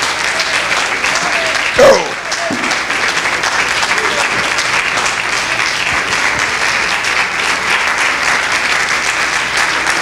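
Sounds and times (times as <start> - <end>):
congregation clapping: 0.0 - 10.0.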